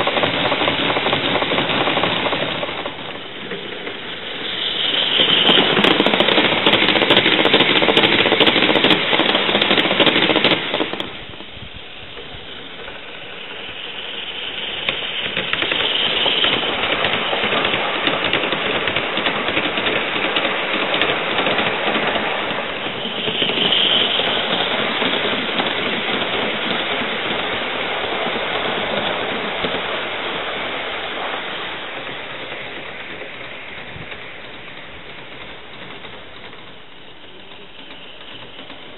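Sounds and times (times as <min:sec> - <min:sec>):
steam hissing: 0:00.0 - 0:38.9
wheels clattering on rails: 0:00.0 - 0:38.9.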